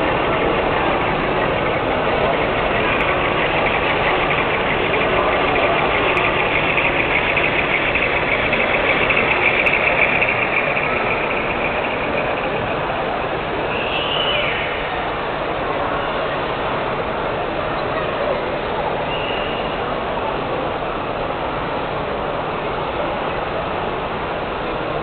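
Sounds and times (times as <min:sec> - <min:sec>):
model diesel locomotive engine: 0:00.0 - 0:25.0.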